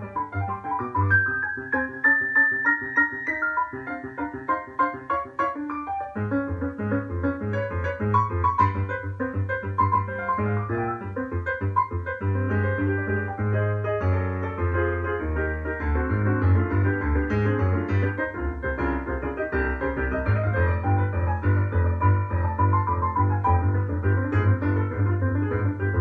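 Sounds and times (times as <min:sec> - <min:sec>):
piano playing: 0:00.0 - 0:26.0.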